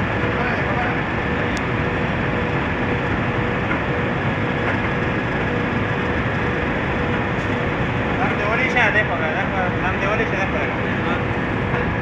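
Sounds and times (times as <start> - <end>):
constant hum: 0.0 - 12.0
industrial machinery noise: 0.0 - 12.0.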